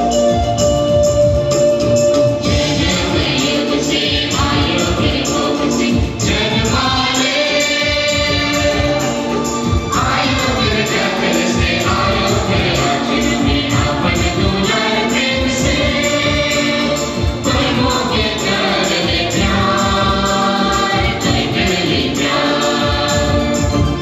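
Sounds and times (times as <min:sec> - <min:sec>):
instrumental accompaniment with beat: 0:00.0 - 0:24.0
choir singing a hymn: 0:02.4 - 0:24.0.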